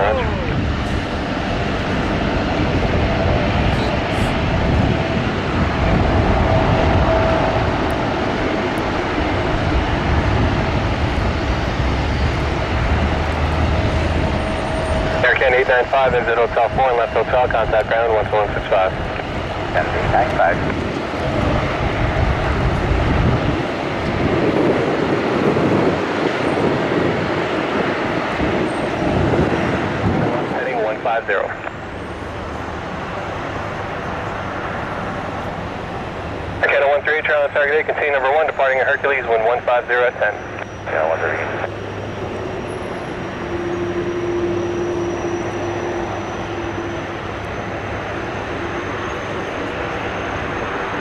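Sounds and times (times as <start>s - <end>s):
aircraft engines running: 0.0s - 51.0s.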